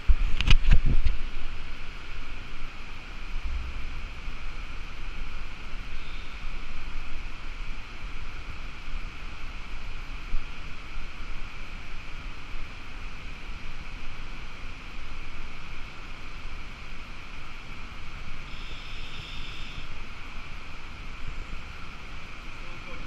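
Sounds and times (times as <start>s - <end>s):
rushing water with low rumble: 0.0s - 23.0s.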